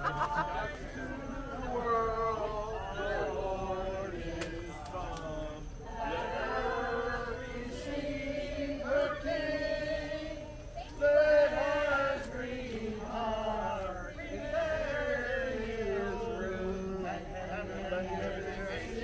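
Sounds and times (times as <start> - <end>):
carolers singing: 0.0 - 19.0.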